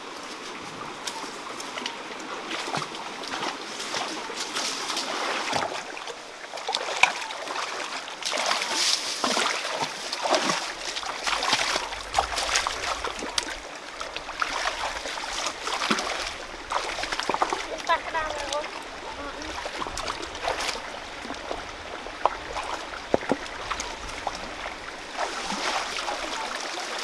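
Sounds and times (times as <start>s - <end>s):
rush of moving water: 0.0s - 27.0s
water splashing: 0.0s - 27.0s.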